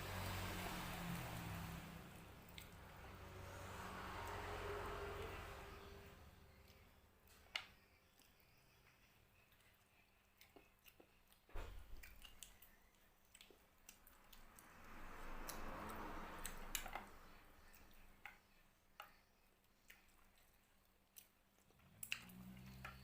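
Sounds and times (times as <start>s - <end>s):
person chewing food: 0.2s - 3.2s, 6.5s - 23.0s.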